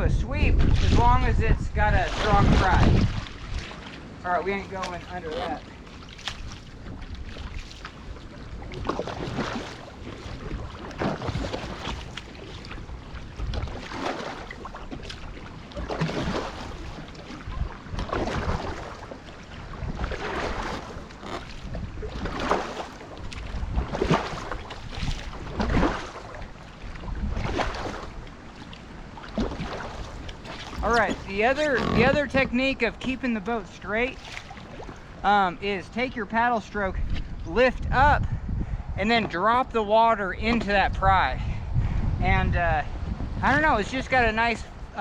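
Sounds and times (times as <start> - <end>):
wind rumbling on microphone: 0.0 - 45.0
paddle strokes in water: 0.4 - 37.8.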